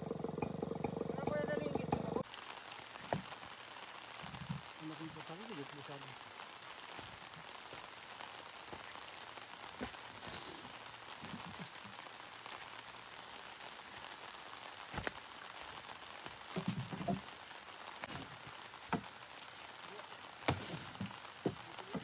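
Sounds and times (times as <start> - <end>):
high-pitched insect hum: 1.1 - 22.0.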